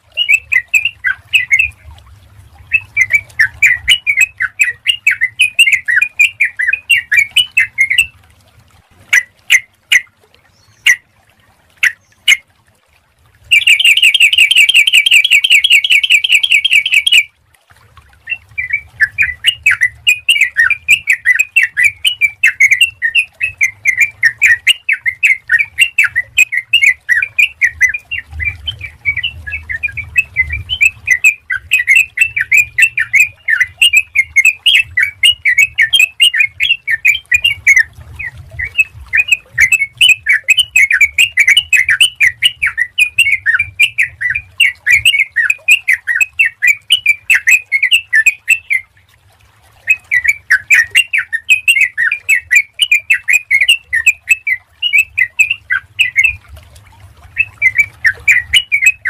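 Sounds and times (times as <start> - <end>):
bird singing bubbly chatter: 0.0 - 8.2, 9.0 - 11.1, 11.8 - 12.4, 13.4 - 17.3, 18.2 - 49.0, 49.8 - 56.5, 57.2 - 59.0.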